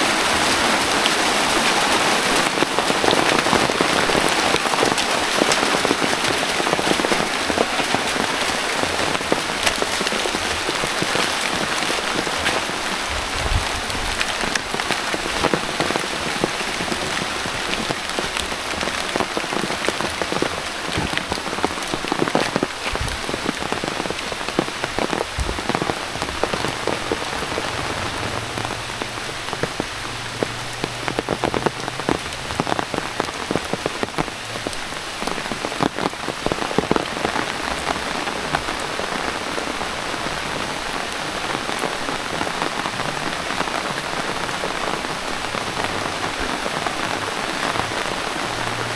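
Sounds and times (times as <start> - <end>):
heavy rain pattering: 0.0 - 48.9.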